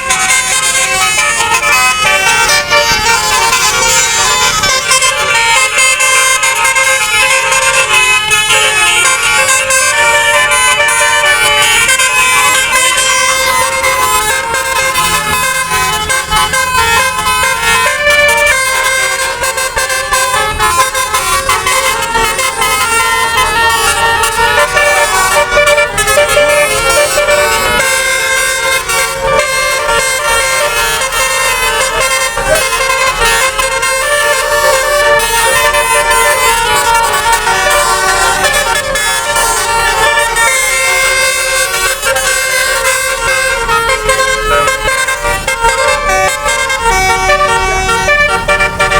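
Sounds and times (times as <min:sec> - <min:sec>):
multi-tone bus horn tune: 0:00.0 - 0:48.9.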